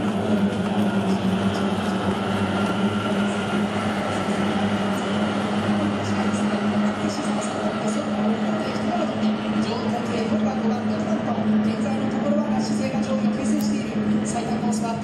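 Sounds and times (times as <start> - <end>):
outboard engines droning: 0.0 - 15.0.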